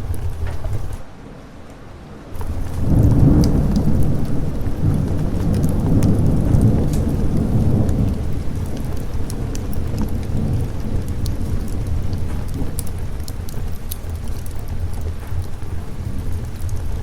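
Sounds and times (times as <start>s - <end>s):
thunder rumbling: 0.0s - 1.0s, 2.4s - 17.0s
steady rain: 0.0s - 17.0s.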